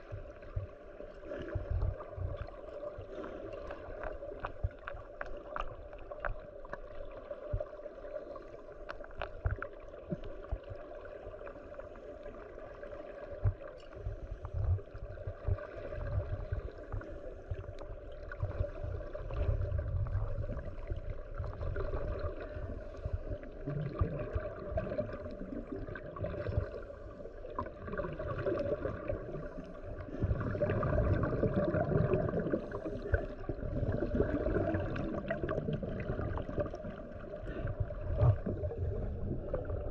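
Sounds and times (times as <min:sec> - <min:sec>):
scuba exhaust bubbles: 0:00.0 - 0:39.9
underwater water rushing and gurgling: 0:00.0 - 0:39.9.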